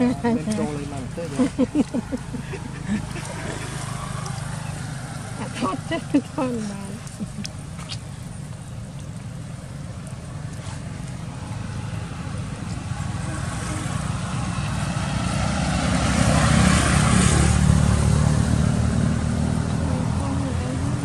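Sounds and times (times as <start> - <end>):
motorbike engine passing: 0.0 - 8.2, 10.3 - 21.0.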